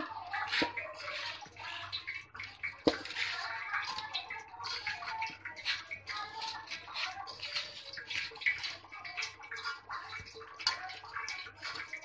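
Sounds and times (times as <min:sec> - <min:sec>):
hand squishing wet prawns in bowl: 0:00.0 - 0:12.0.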